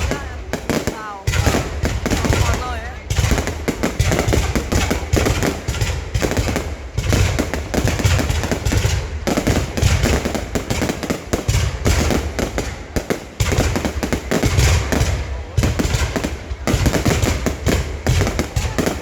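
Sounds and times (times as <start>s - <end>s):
fireworks bangs and crackles: 0.0s - 19.0s
low fireworks booming: 0.0s - 19.0s.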